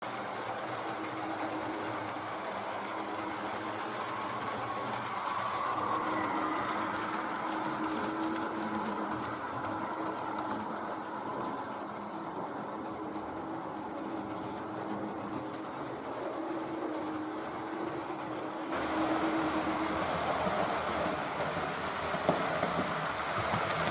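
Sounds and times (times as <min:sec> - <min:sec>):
wheels rattling on track: 0:00.0 - 0:23.9.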